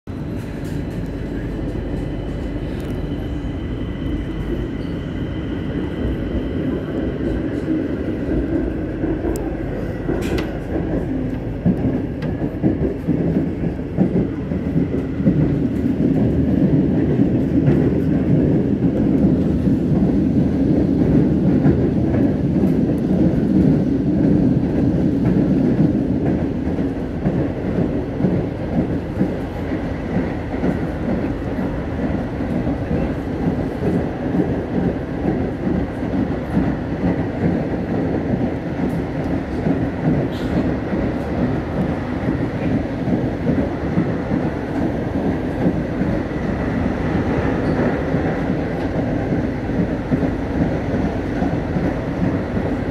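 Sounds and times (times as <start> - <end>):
train running rumble: 0.1 - 52.9.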